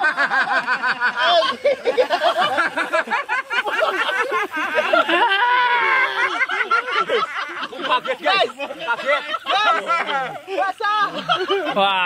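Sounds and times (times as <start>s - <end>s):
people laughing and chattering: 0.0s - 12.0s.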